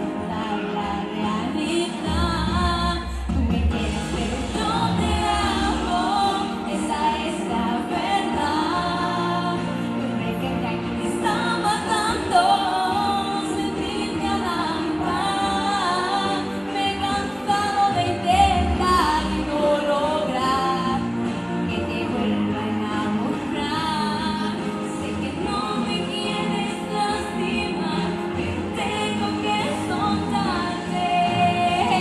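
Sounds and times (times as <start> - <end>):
girl singing a ballad: 0.0 - 32.0
musical accompaniment: 0.0 - 32.0.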